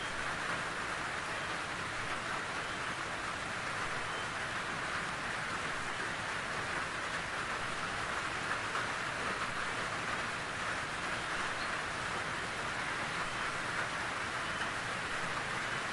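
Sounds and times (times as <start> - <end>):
steady rain falling: 0.0 - 15.9.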